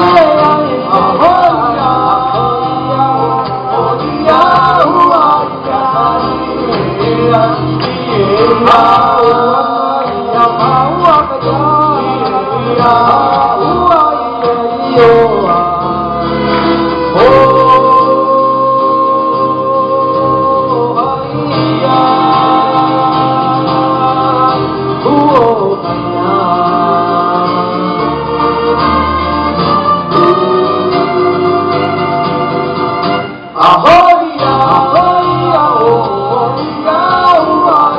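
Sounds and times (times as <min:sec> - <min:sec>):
men singing in harmony: 0:00.0 - 0:37.9.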